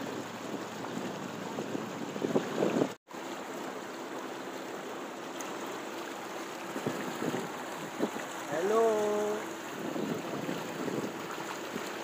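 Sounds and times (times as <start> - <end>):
floodwater splashing against vehicle: 0.0 - 12.0.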